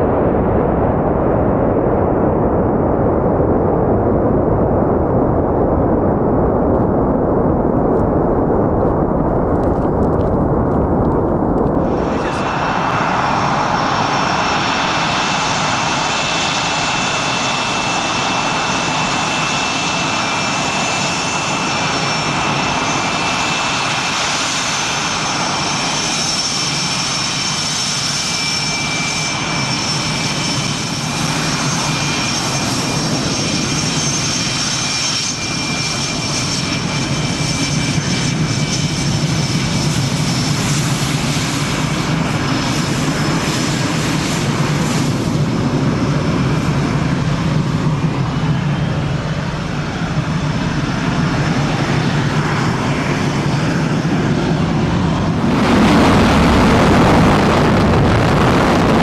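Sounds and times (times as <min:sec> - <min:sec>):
jet engines rumbling: 0:00.0 - 0:59.0
loud rough jet noise: 0:00.0 - 0:59.0
whistling turbine tones: 0:01.2 - 0:59.0.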